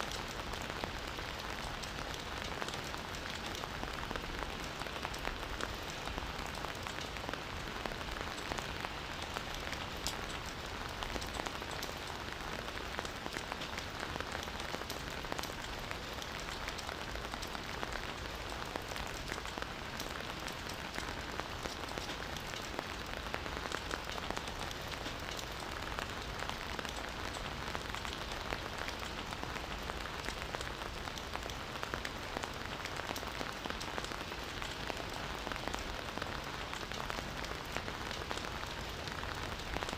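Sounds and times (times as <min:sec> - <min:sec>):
raindrop ticks: 0:00.0 - 0:39.9
steady rain hiss: 0:00.0 - 0:39.9.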